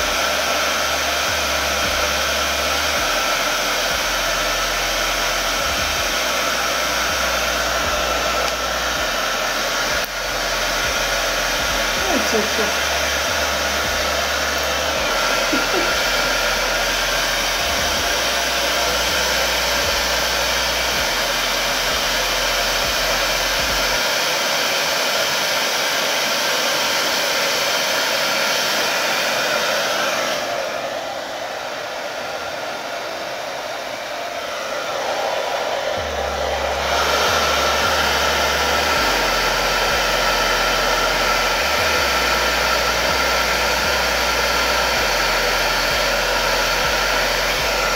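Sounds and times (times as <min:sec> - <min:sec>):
hair dryer blowing: 0:00.0 - 0:47.9.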